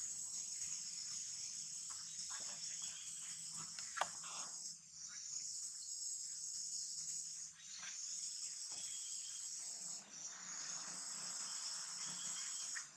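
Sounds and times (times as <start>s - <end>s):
insect chorus buzzing: 0.0s - 12.9s.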